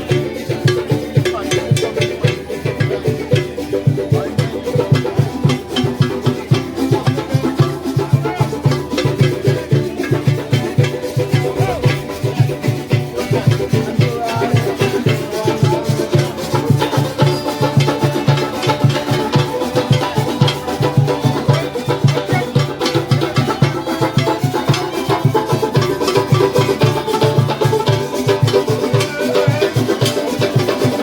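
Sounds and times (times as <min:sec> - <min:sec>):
plucked bass line: 0:00.0 - 0:31.0
shakers ticking: 0:00.0 - 0:31.0
string band dance music: 0:00.0 - 0:31.0.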